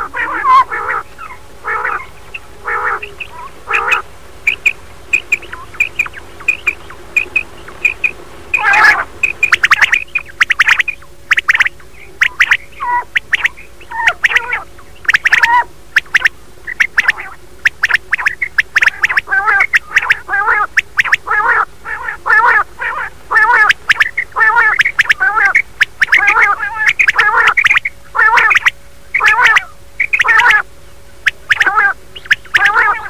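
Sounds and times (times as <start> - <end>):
lower wavering calls: 0.0 - 33.0
quail calls: 0.0 - 33.0.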